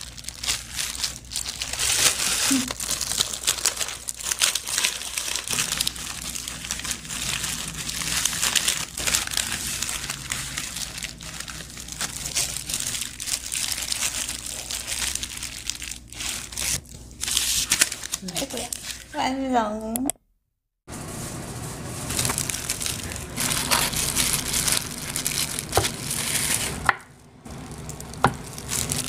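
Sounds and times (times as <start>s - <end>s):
paper and plastic gloves crinkling: 0.0s - 19.9s, 20.9s - 29.0s.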